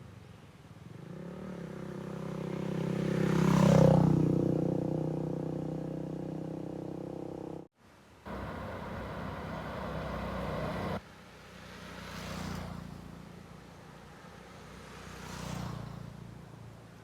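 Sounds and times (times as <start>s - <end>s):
road traffic noise: 0.1s - 17.0s
vehicles passing: 0.3s - 7.7s, 8.3s - 17.0s.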